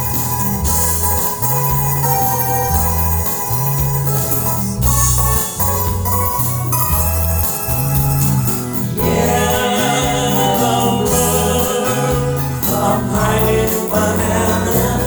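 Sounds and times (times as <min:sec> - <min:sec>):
bass line: 0:00.0 - 0:15.0
held keyboard chords: 0:00.0 - 0:15.0.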